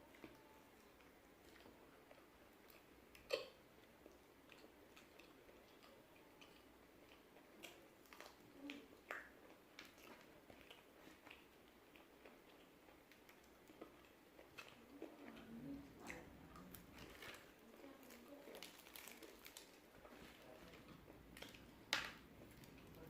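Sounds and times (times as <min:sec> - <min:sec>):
chewing crispy fried chicken: 0:00.1 - 0:23.0.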